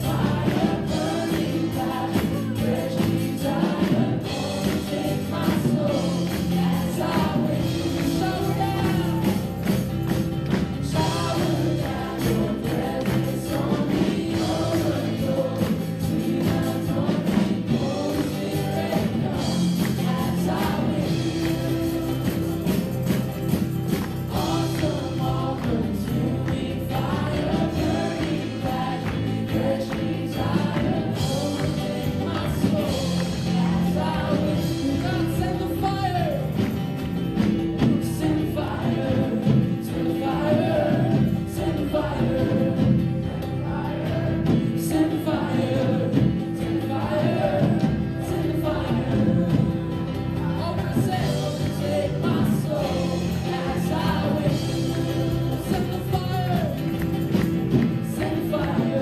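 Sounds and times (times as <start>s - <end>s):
acoustic guitar: 0.0s - 59.0s
drums: 0.0s - 59.0s
electric bass: 0.0s - 59.0s
keyboard: 0.0s - 59.0s
voices singing together: 0.0s - 59.0s.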